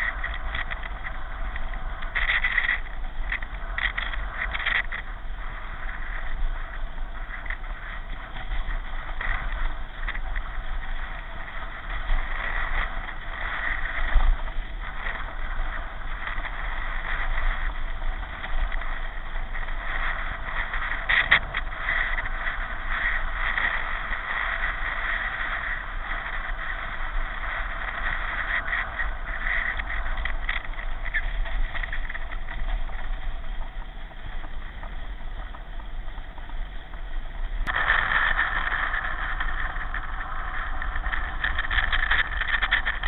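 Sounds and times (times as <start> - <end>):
low rumble: 0.0 - 43.0
pedal car rolling: 0.0 - 43.0
rushing wind: 0.0 - 43.0.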